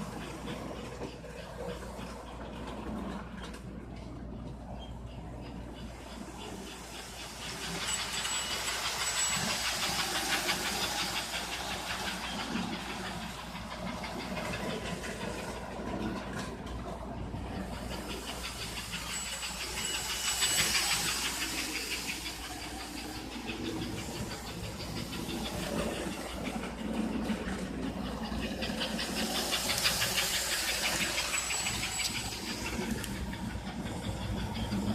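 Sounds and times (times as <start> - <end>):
model train clattering on track: 0.0 - 34.9.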